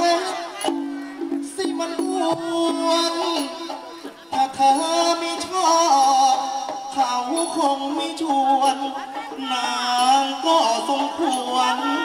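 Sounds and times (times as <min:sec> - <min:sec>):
folk opera stage music: 0:00.0 - 0:12.0.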